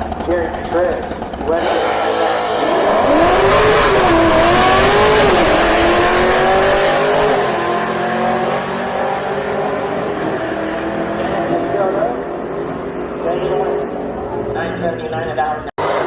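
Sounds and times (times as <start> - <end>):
drag racing car accelerating: 0.0 - 16.0.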